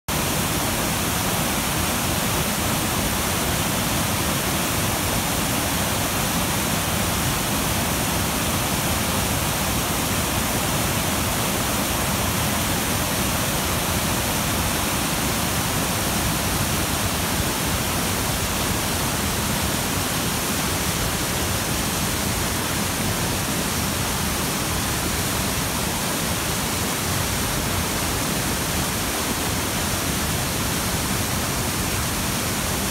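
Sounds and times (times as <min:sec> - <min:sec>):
river rushing over weir: 0:00.1 - 0:32.9.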